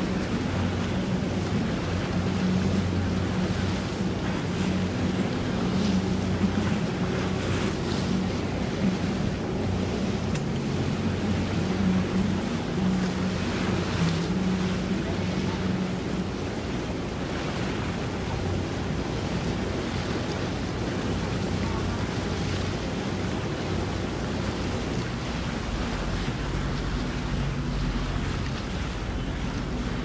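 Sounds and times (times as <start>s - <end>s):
boat engine humming: 0.0s - 30.0s
water sounds: 0.0s - 30.0s.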